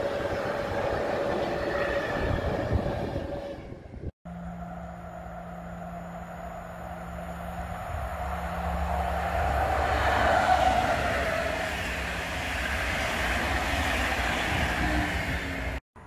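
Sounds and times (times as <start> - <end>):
train passing at speed: 0.0 - 16.0
wheels rumbling on rails: 0.0 - 16.0.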